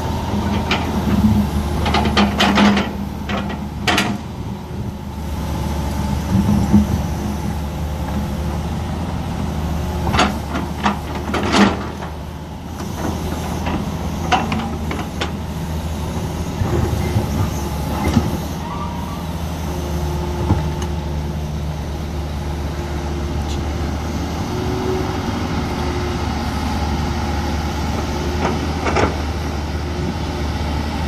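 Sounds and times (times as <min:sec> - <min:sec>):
excavator diesel engine: 0:00.0 - 0:31.0.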